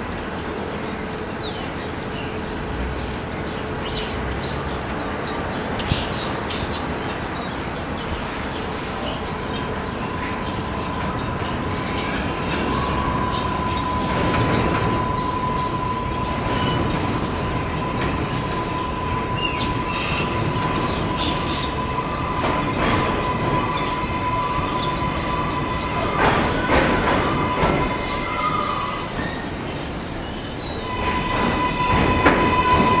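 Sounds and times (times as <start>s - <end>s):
high-pitched train whine: 0.0s - 33.0s
train wheels rumbling on rails: 0.0s - 33.0s.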